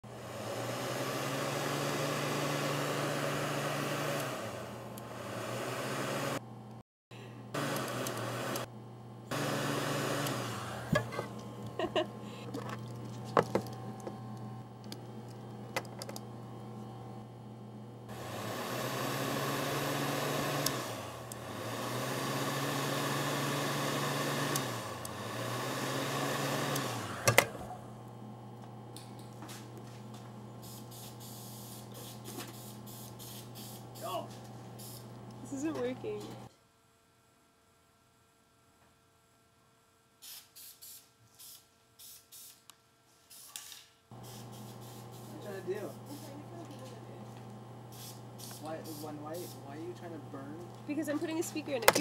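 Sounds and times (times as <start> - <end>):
hot-air blower fan: 0.0 - 36.5, 44.1 - 52.0
electrical hum: 0.1 - 36.5, 44.1 - 52.0.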